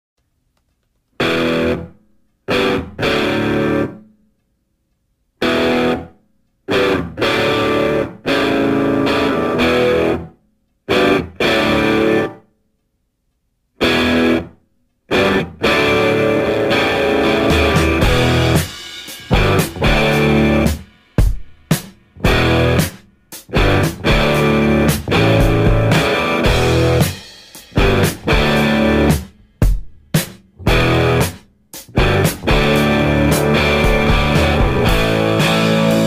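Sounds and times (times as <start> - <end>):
distorted guitar music: 1.2 - 4.1, 5.4 - 12.4, 13.8 - 36.0.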